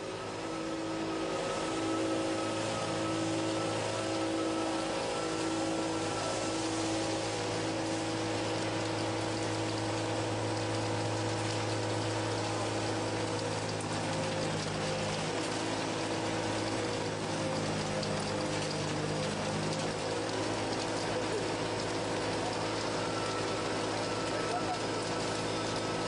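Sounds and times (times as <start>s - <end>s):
spindle drive humming: 0.0s - 26.0s.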